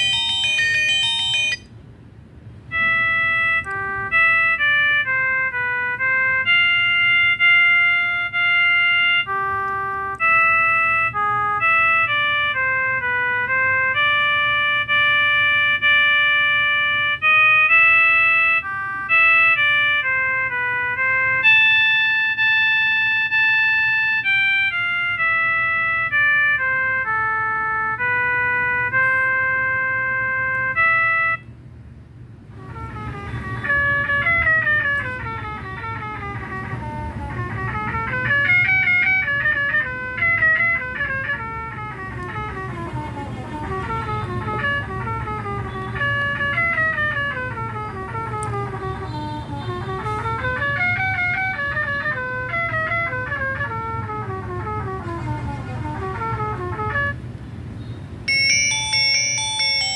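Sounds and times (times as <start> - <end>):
phone ringtone melody: 0.0 - 1.8, 2.7 - 31.5, 32.6 - 57.2, 58.3 - 59.9.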